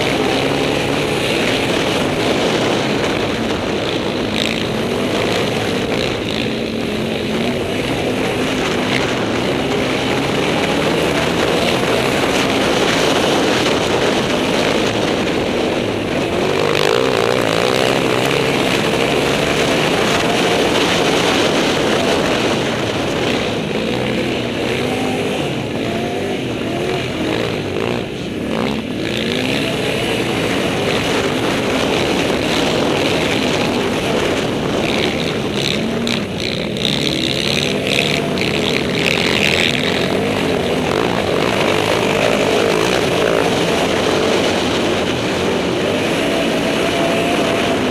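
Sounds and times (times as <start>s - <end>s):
quad engine revving under load: 0.0s - 47.9s.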